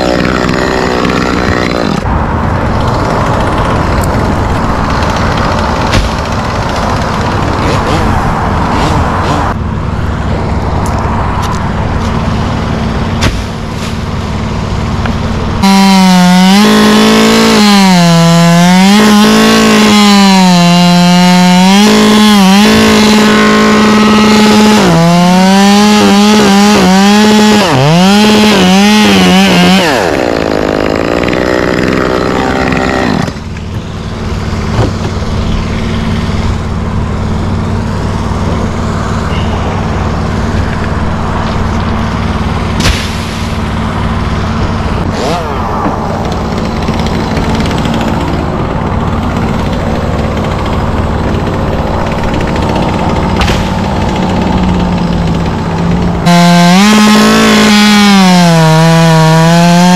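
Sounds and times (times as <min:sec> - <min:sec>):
chainsaw cutting at high revs: 0:00.0 - 0:02.1, 0:02.8 - 0:09.6, 0:12.2 - 0:59.9.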